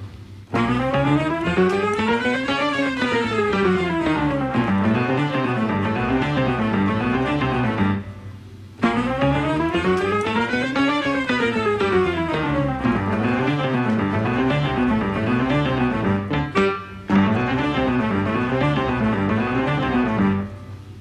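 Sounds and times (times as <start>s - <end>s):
instrumental background music: 0.5s - 21.0s.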